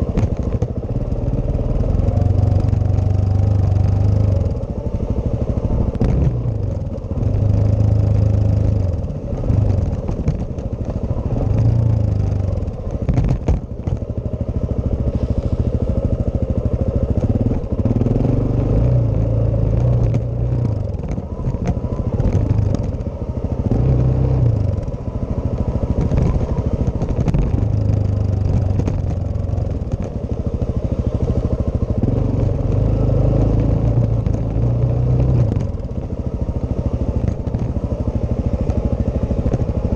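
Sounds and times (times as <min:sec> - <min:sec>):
motorcycle engine revving: 0:00.0 - 0:39.9
motorcycle rattling over rough ground: 0:00.0 - 0:39.9.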